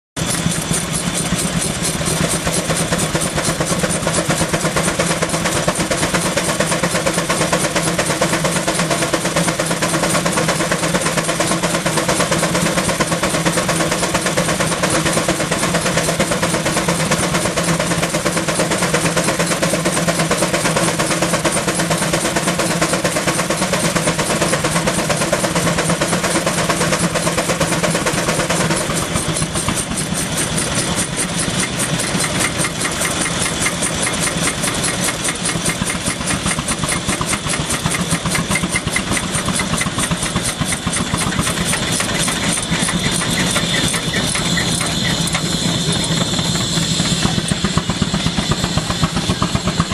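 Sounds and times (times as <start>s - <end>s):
steam traction engine running: 0.2s - 49.9s.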